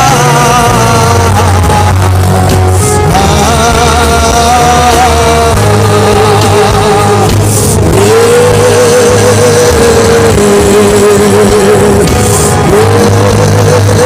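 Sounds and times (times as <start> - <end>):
instrumental worship music: 0.0 - 14.0.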